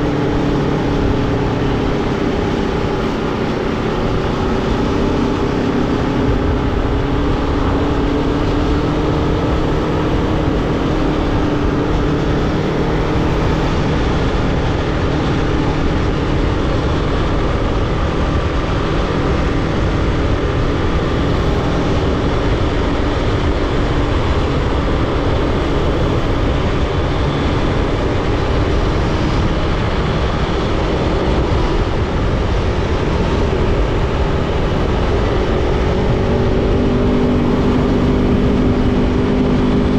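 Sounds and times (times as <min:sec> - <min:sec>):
motorcycle engine running: 0:00.0 - 0:39.9
wind noise rushing: 0:00.0 - 0:39.9.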